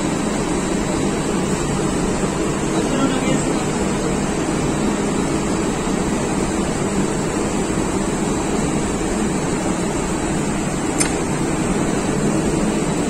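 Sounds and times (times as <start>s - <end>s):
engine room machinery drone: 0.0s - 13.0s.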